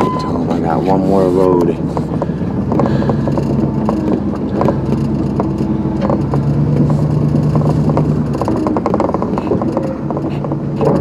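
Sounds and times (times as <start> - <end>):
pickup truck engine running: 0.0 - 11.0.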